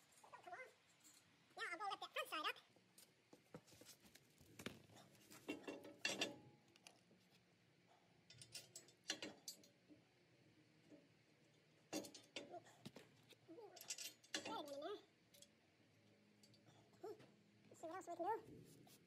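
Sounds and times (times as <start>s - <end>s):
faint metal clinks and knocks: 0.0s - 1.4s, 2.8s - 10.2s, 10.8s - 19.0s.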